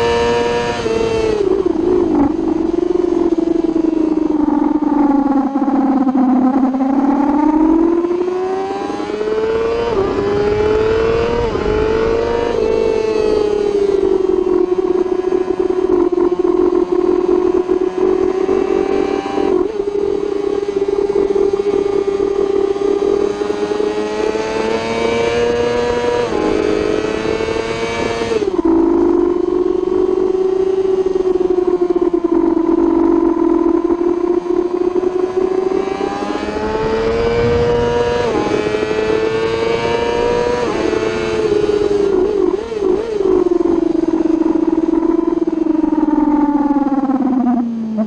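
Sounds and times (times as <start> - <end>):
rushing wind: 0.0 - 30.0, 34.4 - 48.0
motorcycle engine revving: 0.0 - 48.0.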